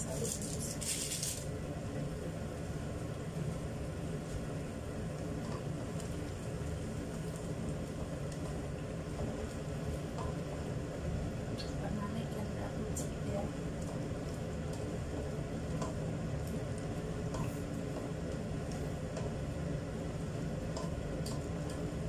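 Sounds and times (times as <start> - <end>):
stew cooking low rumble: 0.0 - 22.0.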